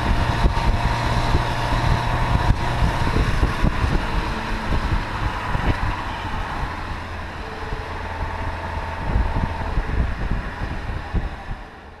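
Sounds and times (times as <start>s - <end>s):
car engine running: 0.0s - 12.0s
wind buffeting microphone: 0.0s - 12.0s.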